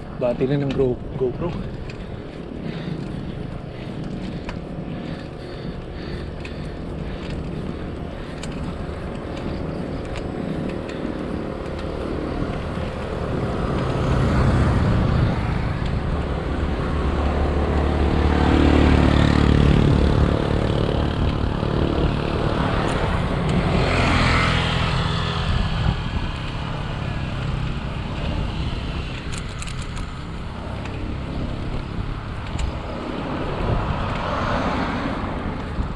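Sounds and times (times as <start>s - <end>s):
motor vehicle engines passing: 0.0s - 35.9s
wind rushing on microphone: 0.0s - 35.9s.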